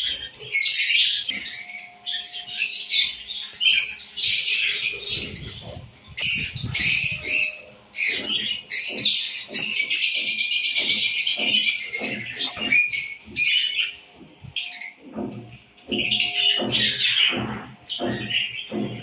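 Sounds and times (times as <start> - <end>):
small birds chirping and chattering: 0.0 - 19.0.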